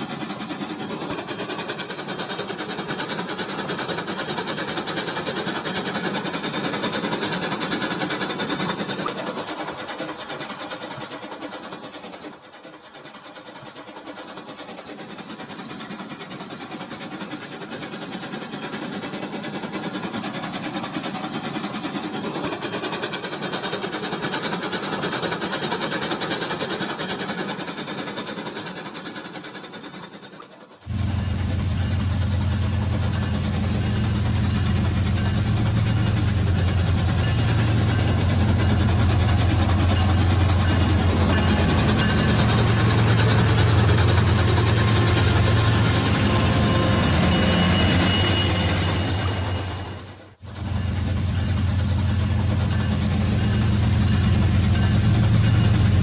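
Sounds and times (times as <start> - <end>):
toy train whirring and clattering: 0.0 - 56.0.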